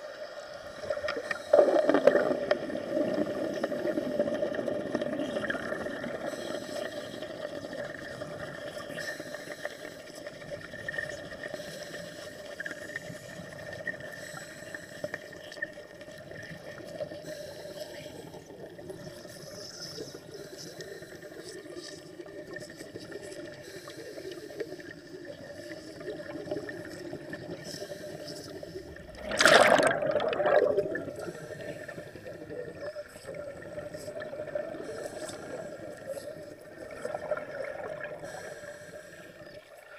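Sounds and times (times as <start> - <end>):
underwater gurgling and trickling: 0.0 - 39.9.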